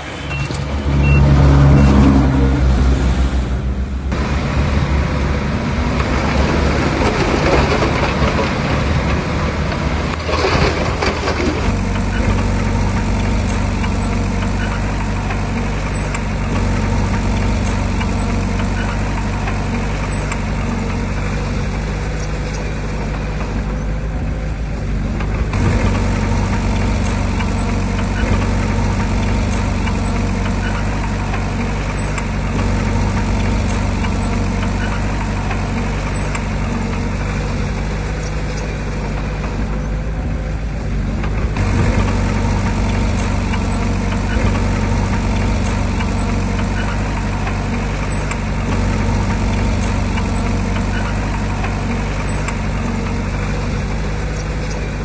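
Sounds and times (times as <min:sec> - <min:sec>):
diesel engine running under load: 0:00.0 - 0:55.0
mechanical clatter: 0:03.4 - 0:55.0.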